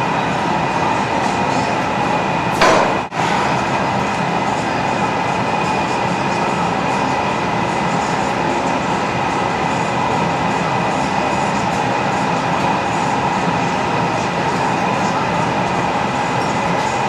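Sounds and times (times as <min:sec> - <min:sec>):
constant hum: 0:00.0 - 0:17.0
furnace burners and blowers: 0:00.0 - 0:17.0.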